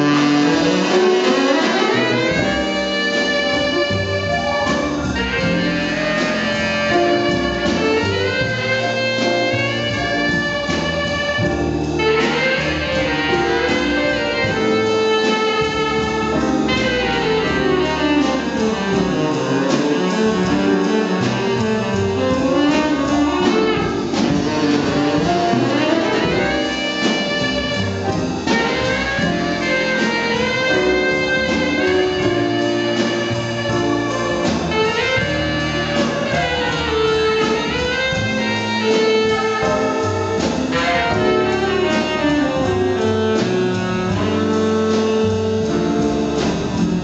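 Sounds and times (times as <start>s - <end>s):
jazz band playing: 0.0s - 47.0s
saxophone melody: 0.0s - 47.0s.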